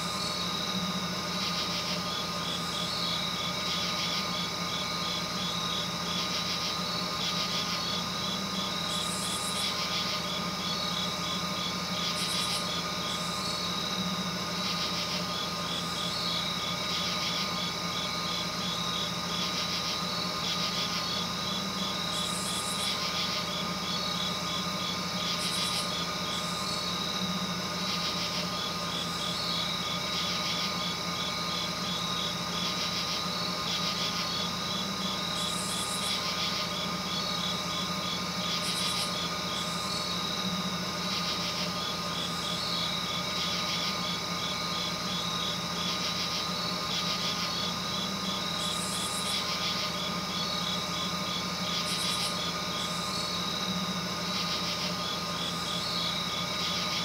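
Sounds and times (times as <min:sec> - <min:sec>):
constant low hum: 0:00.0 - 0:57.0
night insects chirping: 0:00.0 - 0:57.0.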